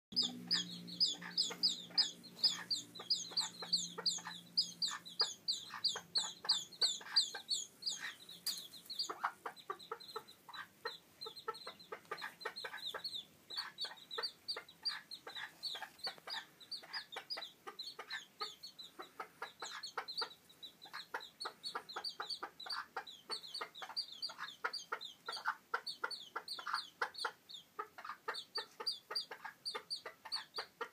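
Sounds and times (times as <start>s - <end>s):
chicks peeping: 0.1s - 30.9s
hen clucking: 0.1s - 30.9s.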